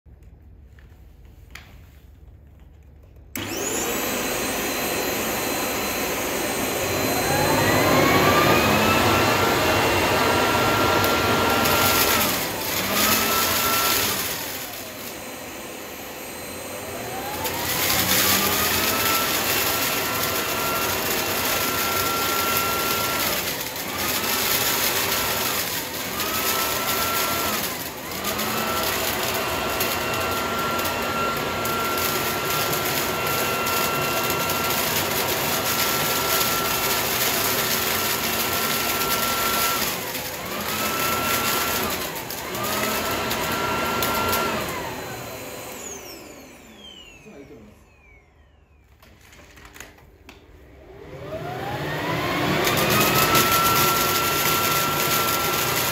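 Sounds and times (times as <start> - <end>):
vacuum cleaner motor whine: 3.3 - 55.9.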